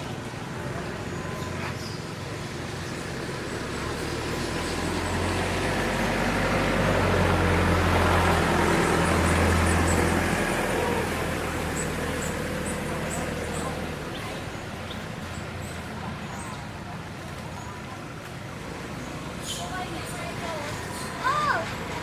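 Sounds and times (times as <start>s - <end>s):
road noise: 0.0s - 22.0s
vehicle engine hum passing: 0.0s - 22.0s.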